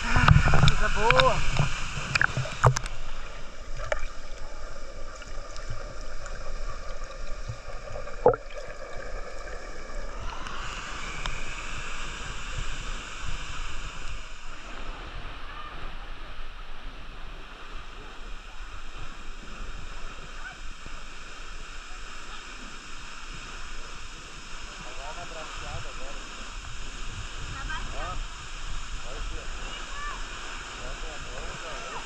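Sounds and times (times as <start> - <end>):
waterfall rushing into pool: 0.0 - 32.0.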